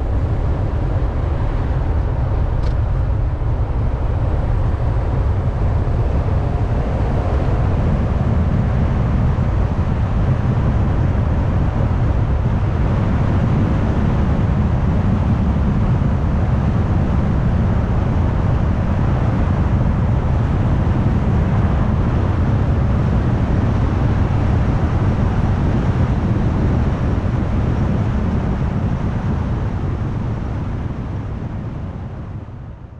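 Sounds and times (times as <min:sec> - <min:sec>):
car tyre and engine rumble: 0:00.0 - 0:32.9.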